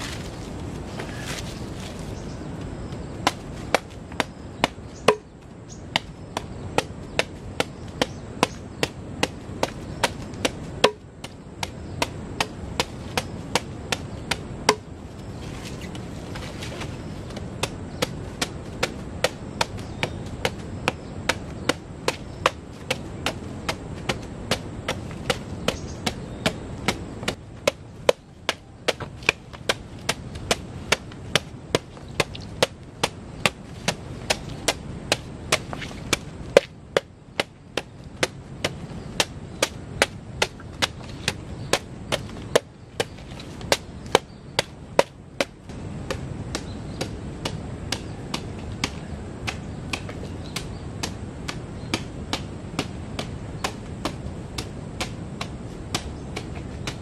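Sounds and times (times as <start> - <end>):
machete chopping banana stem: 3.2 - 14.9, 17.2 - 57.0.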